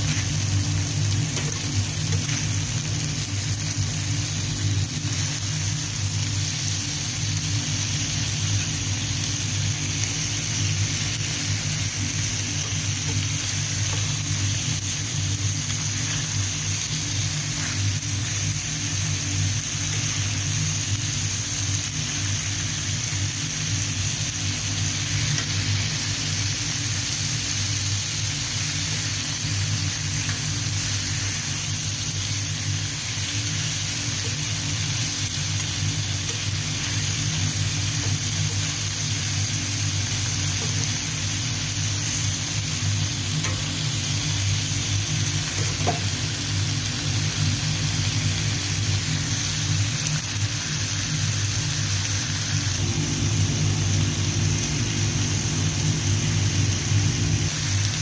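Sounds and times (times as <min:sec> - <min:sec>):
chicken sizzling on griddle: 0:00.0 - 0:58.0
steady low hum: 0:00.0 - 0:58.0.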